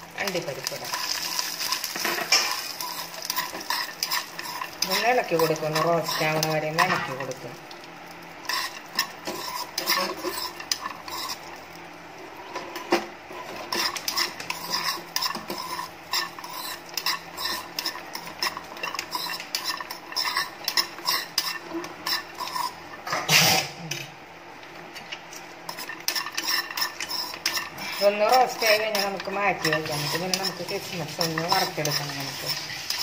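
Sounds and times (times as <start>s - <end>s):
metal spoon scraping a pan: 0.3s - 7.4s, 8.4s - 11.6s, 12.4s - 23.0s, 25.6s - 33.0s.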